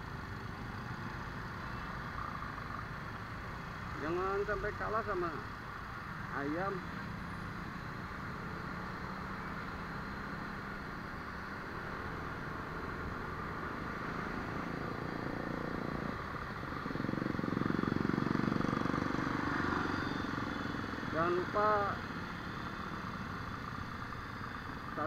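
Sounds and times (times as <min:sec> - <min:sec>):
traffic noise: 0:00.0 - 0:25.0.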